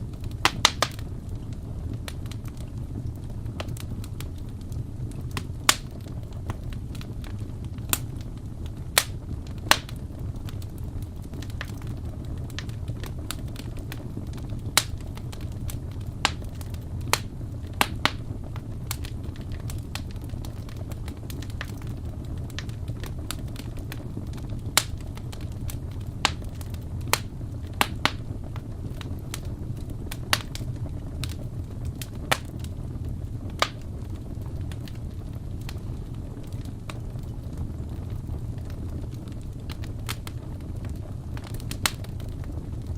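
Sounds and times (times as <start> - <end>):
fire pops and snaps: 0.0 - 42.9
wood fire low rumble: 0.0 - 42.9.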